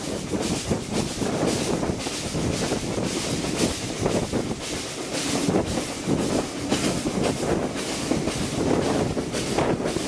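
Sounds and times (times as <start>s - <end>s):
train wheels clattering over rails: 0.0s - 10.0s.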